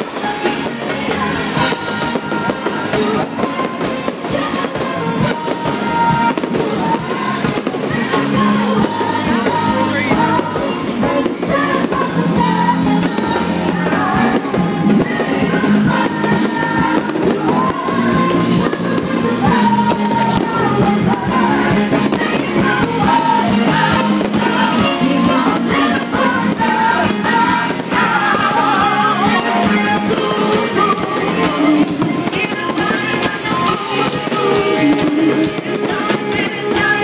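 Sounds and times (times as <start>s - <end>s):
fireworks popping and banging: 0.0s - 37.0s
live rock band playing: 0.0s - 37.0s
person singing: 0.0s - 37.0s.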